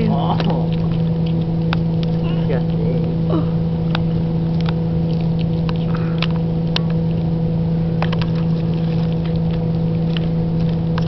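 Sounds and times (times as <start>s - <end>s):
cat chewing bones: 0.0s - 11.0s
low motor-like hum: 0.0s - 11.0s.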